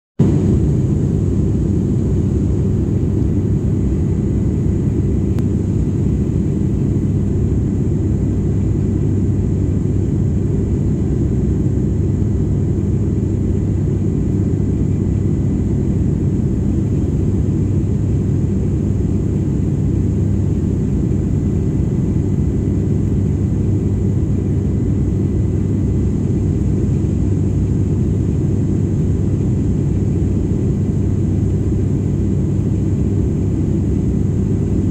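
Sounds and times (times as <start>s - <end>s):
airliner cabin engine rumble: 0.2s - 34.9s
faint steady whine: 0.2s - 34.9s.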